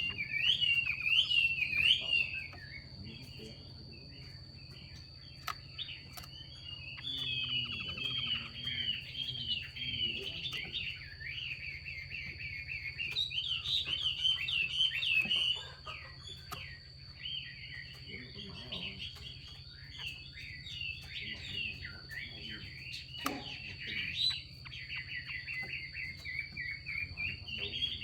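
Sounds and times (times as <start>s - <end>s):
bird chattering calls: 0.0s - 28.0s.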